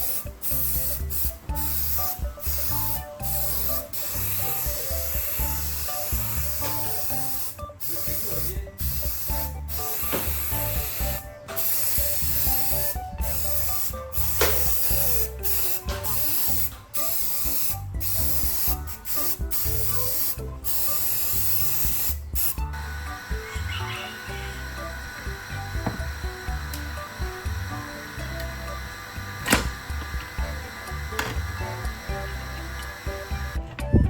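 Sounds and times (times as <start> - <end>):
aerosol spray paint hissing: 0.0 - 33.6
music with steady beat: 0.0 - 34.0.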